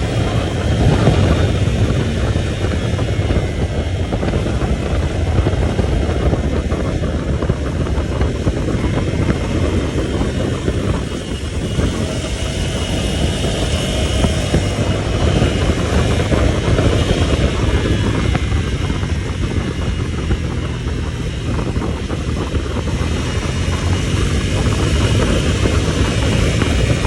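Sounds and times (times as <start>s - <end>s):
vehicle engine and road rumble: 0.0s - 27.0s
wind buffeting microphone: 0.0s - 27.0s.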